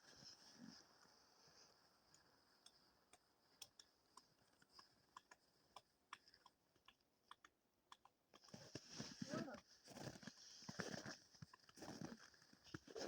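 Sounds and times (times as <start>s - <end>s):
faint irregular clicks: 0.2s - 13.0s.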